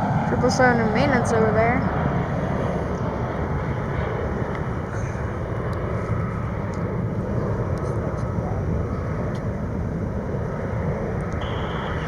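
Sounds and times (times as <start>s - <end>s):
airliner jet engine rumble: 0.0s - 12.0s.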